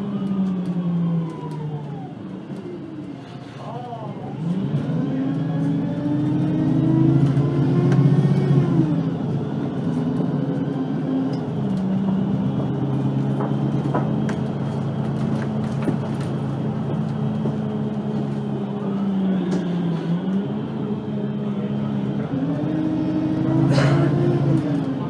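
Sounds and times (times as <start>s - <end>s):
bus diesel engine pulling away: 0.0s - 25.0s.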